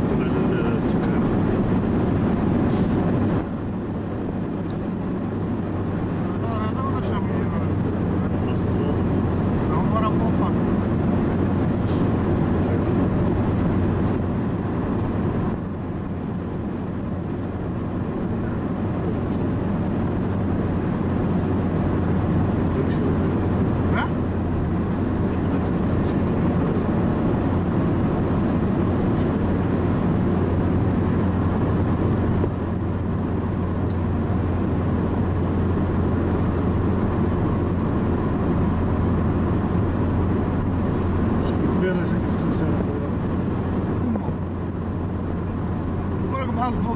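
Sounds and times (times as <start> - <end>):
car cabin road noise: 0.0 - 46.9.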